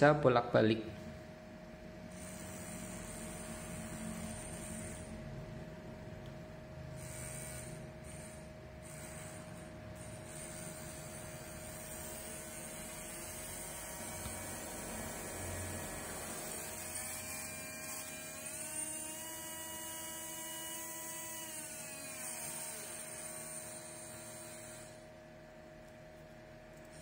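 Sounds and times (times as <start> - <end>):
small electric motor whine: 2.0 - 27.0.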